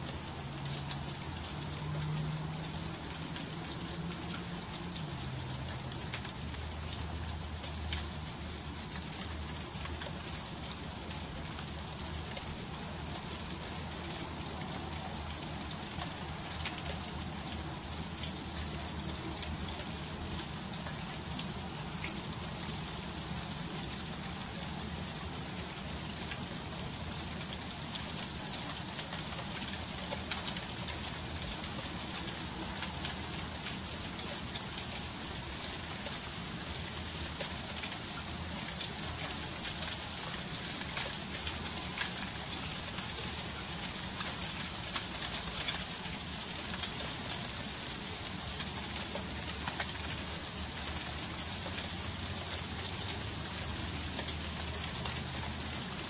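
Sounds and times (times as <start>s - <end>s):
freezing rain pattering: 0.0s - 56.0s.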